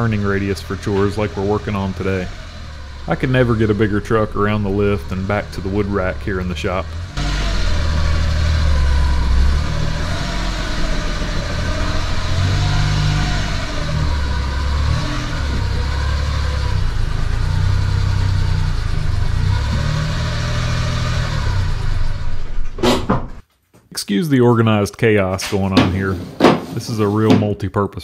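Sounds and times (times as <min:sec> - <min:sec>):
small truck engine revving: 0:00.0 - 0:23.0.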